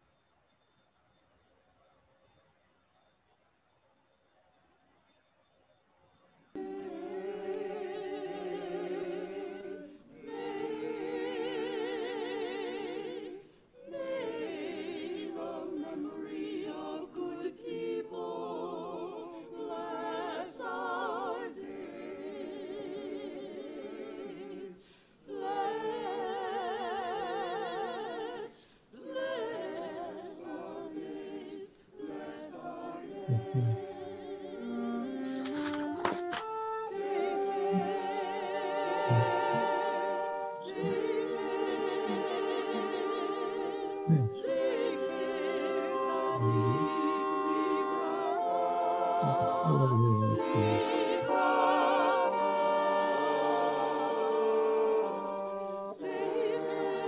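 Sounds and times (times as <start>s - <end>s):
choir singing: 6.5s - 57.0s.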